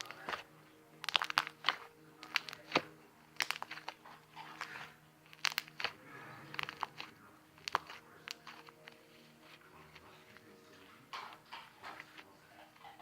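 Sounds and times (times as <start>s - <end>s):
slime crackling and squelching: 0.0s - 10.5s.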